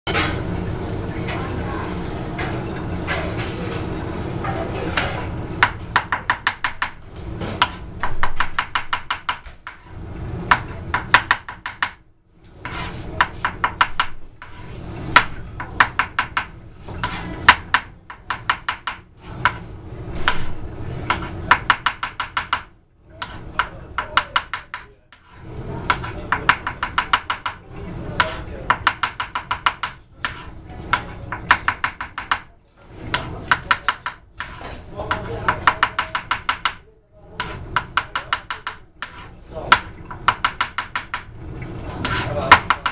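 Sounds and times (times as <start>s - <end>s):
knife chopping on cutting board: 5.0s - 9.9s, 10.5s - 12.0s, 12.6s - 19.6s, 20.2s - 36.8s, 37.4s - 41.3s, 42.0s - 42.9s.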